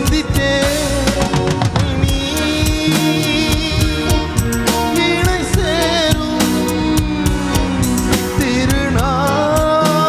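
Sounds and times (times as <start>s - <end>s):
drum kit beat: 0.0s - 10.0s
live band playing: 0.0s - 10.0s.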